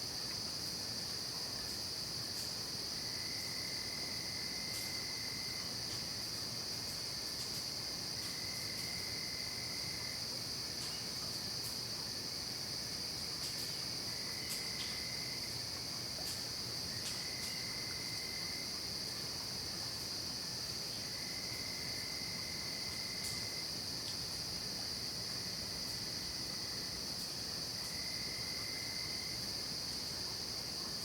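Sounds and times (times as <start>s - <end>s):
lower cricket trill: 0.0s - 31.0s.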